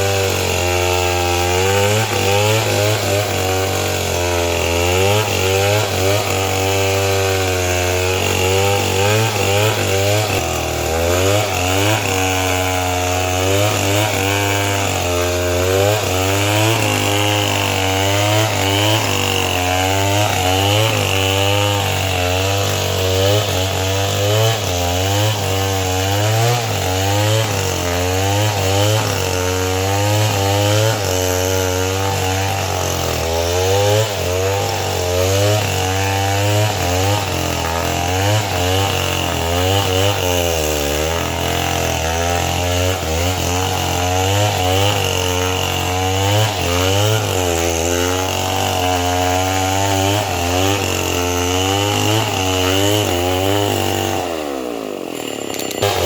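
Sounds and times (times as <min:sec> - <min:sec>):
chainsaw cutting timber: 0:00.0 - 0:56.0.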